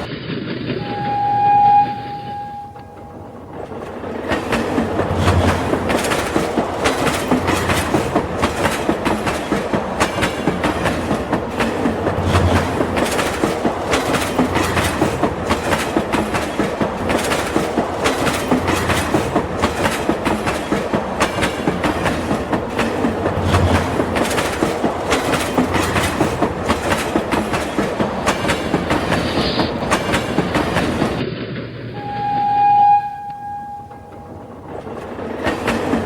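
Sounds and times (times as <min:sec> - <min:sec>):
toy train clacking on track: 0:02.8 - 0:31.7, 0:33.2 - 0:36.0.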